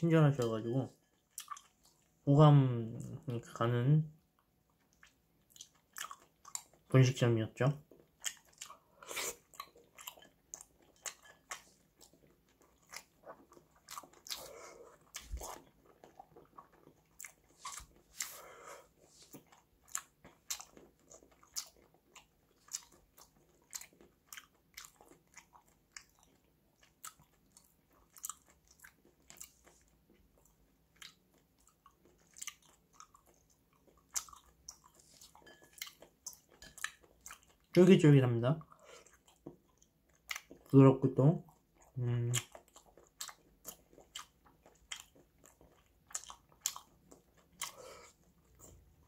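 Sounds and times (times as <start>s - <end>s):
person chewing wetly: 0.3s - 2.2s, 4.3s - 6.9s, 7.8s - 37.9s, 38.6s - 40.8s, 41.4s - 49.0s.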